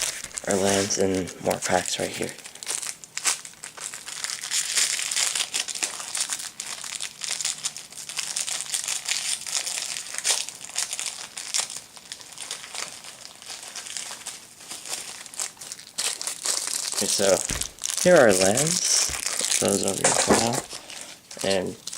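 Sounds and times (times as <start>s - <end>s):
packaging crinkling: 0.0s - 21.9s.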